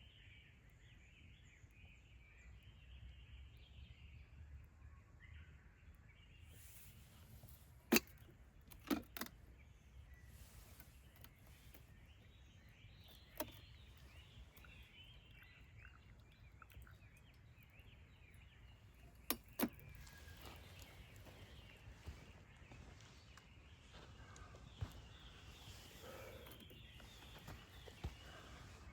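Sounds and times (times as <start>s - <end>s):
birds singing and calling: 0.0s - 28.9s
low steady outdoor hum: 0.0s - 28.9s.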